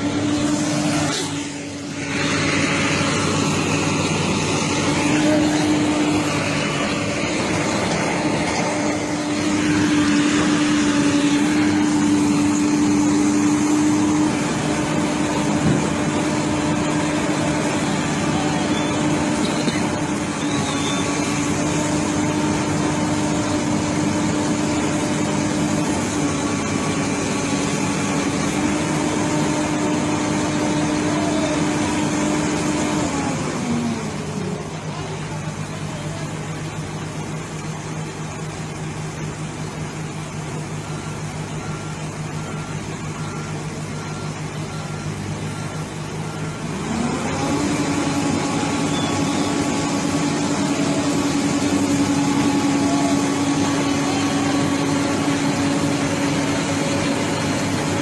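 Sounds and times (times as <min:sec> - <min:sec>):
heavy machine engine revving: 0:00.0 - 0:58.0.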